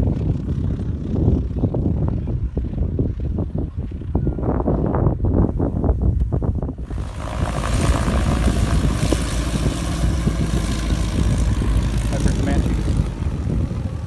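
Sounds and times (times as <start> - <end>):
propeller airplane engine: 0.0 - 14.0
wind rumble on microphone: 0.0 - 14.0.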